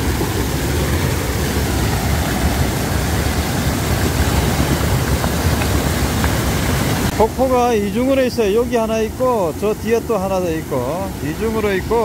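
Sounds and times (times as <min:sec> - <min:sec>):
waterfall rushing into a pool: 0:00.0 - 0:12.0.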